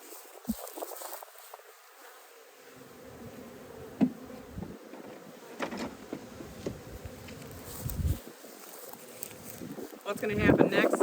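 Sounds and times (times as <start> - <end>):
bees buzzing: 0.3 - 11.0.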